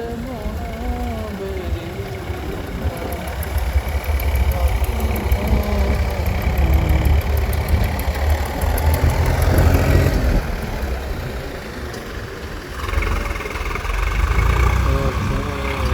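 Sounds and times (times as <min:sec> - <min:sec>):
diesel engine rumbling: 0:00.0 - 0:15.9.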